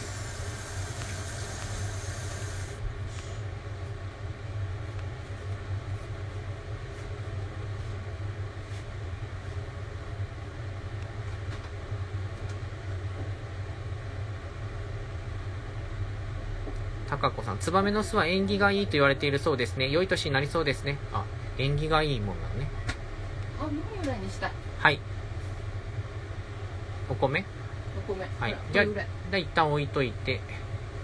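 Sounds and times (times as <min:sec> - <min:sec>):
gas burner rumbling: 0:00.0 - 0:31.0.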